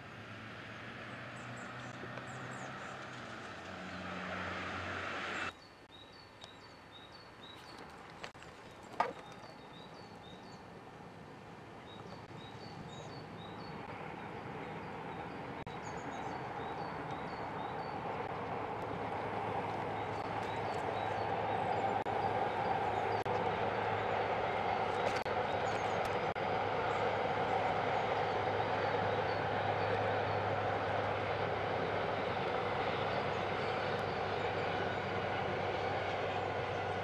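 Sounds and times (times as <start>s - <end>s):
train rumbling over viaduct: 0.0s - 5.5s, 12.2s - 37.0s.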